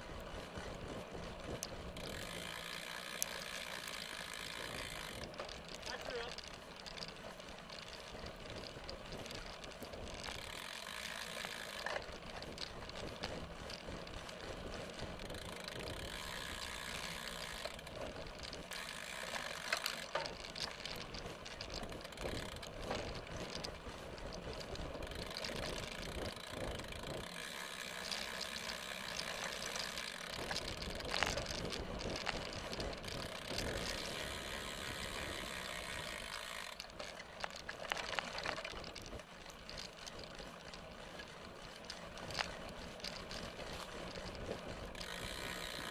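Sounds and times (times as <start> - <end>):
bike tyres rattling on gravel: 0.0 - 45.9
freewheel hub ratcheting: 0.0 - 45.9
bike knocking on bumps: 0.2 - 45.9.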